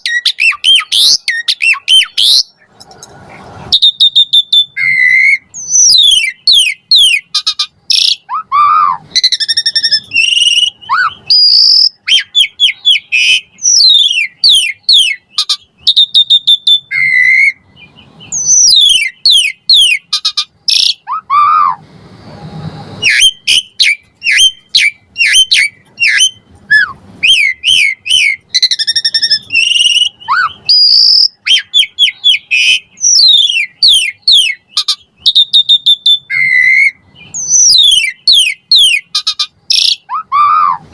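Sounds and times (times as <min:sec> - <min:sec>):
starling singing: 0:00.0 - 0:02.8, 0:03.7 - 0:21.8, 0:23.0 - 0:40.9.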